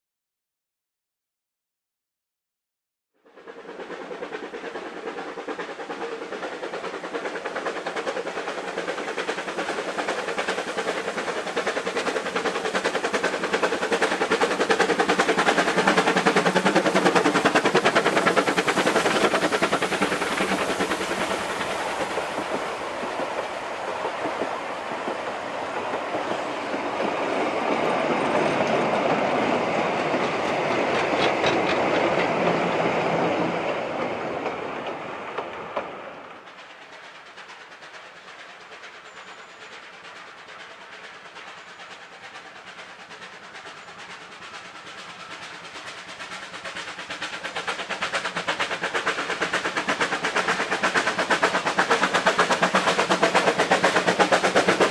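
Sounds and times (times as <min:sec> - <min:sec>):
steam locomotive exhaust beats: 0:03.3 - 0:54.9.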